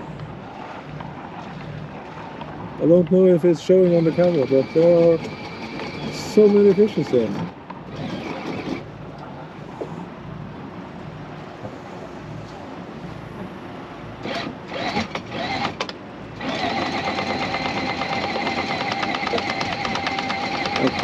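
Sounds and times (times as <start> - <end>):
anchor windlass motor whine: 0.0 - 21.0
boat engine idling: 0.0 - 21.0.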